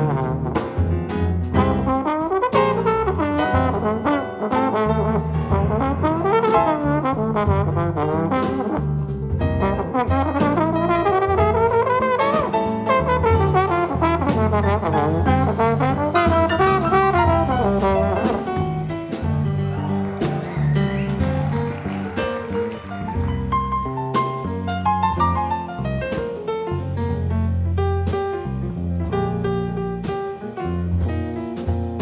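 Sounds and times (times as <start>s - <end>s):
trombone solo gliding between notes: 0.0s - 0.9s, 1.5s - 26.2s
drums with cymbals: 0.0s - 32.0s
piano: 0.0s - 32.0s.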